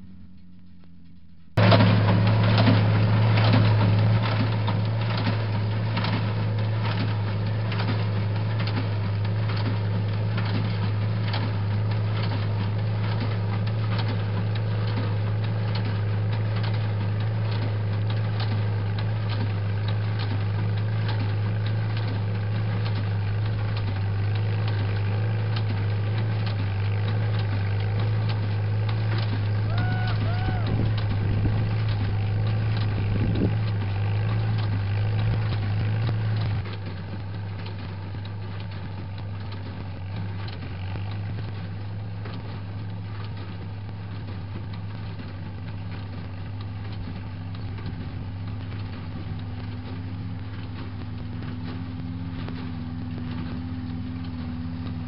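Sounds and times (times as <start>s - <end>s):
tractor engine running: 0.0s - 55.0s
hay baler plunger knocking: 1.6s - 55.0s.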